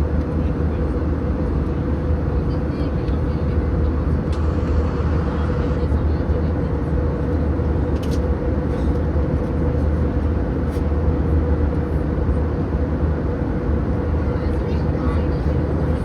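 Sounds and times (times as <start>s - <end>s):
airliner engine drone: 0.0s - 16.0s
constant hum: 0.0s - 16.0s.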